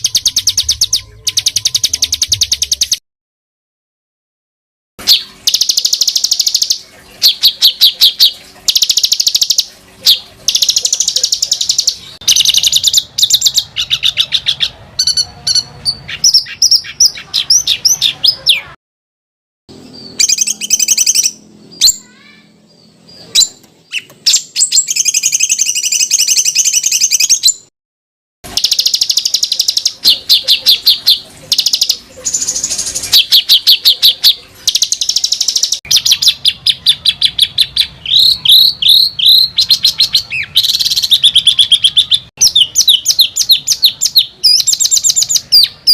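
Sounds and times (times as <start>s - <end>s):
songbird chirps and sweeping notes: 0.0s - 3.0s, 5.0s - 18.7s, 19.7s - 27.7s, 28.5s - 45.9s.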